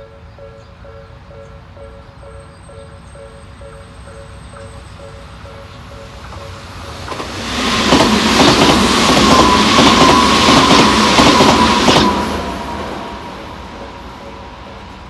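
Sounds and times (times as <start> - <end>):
high train whine: 0.0 - 15.0
train wheels clattering: 2.7 - 15.0.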